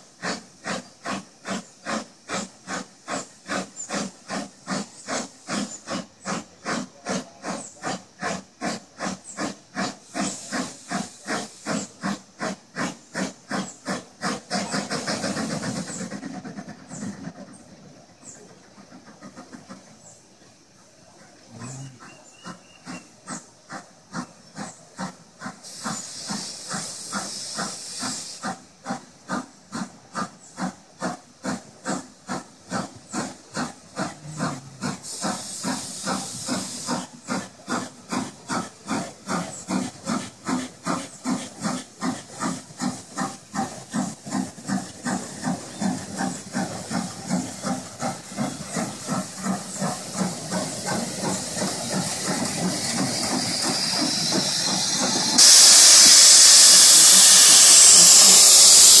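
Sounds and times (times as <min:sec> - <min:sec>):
steam hiss bursts: 0:00.0 - 0:59.0
steam locomotive exhaust chuffs: 0:00.0 - 0:59.0.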